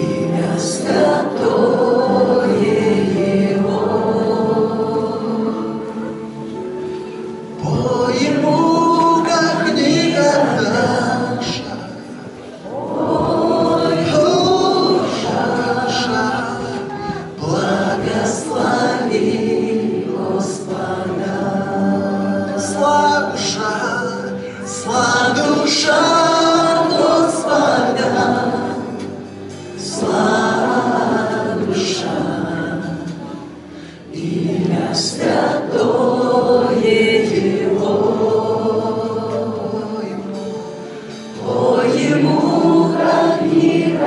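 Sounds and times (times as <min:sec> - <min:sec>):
group singing a worship song: 0:00.0 - 0:06.6, 0:07.6 - 0:44.0.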